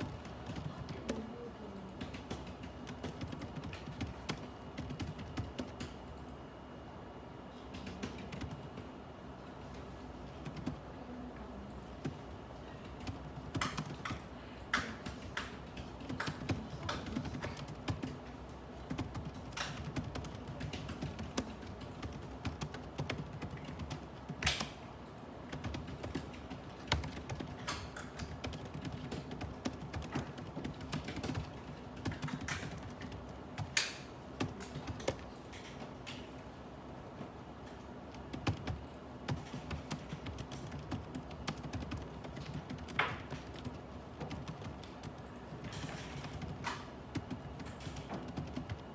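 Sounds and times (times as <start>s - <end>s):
typing on computer keyboard: 0.0s - 6.4s, 7.6s - 9.0s, 9.6s - 36.4s, 37.6s - 48.9s.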